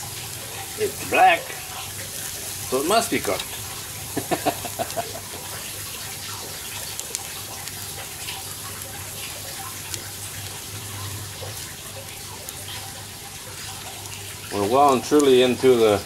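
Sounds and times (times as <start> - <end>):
charcoal crackles: 0.0 - 16.0
meat sizzling on a grill: 0.0 - 16.0.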